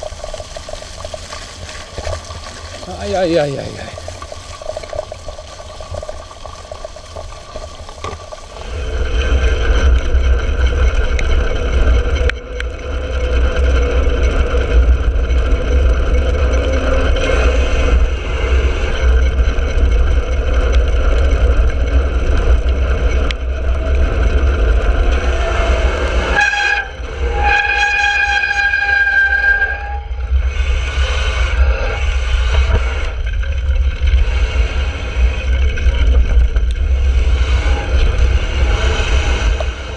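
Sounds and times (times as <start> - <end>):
multi-tone whine: 0.0 - 39.9
wind rumble on microphone: 0.0 - 39.9.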